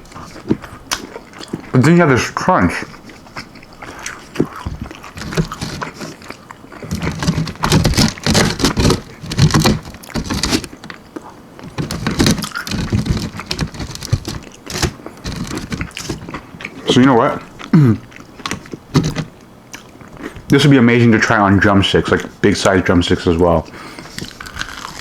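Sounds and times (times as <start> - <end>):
crunchy chewing: 0.0 - 20.7, 23.6 - 25.0.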